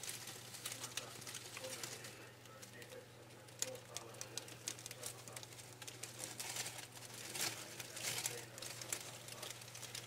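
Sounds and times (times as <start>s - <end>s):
dry leaves crackling and rustling: 0.0s - 2.9s, 3.5s - 10.0s.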